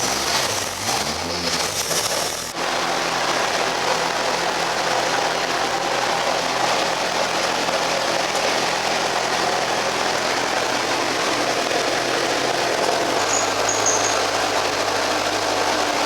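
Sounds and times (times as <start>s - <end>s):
race engine idling: 0.0s - 16.0s.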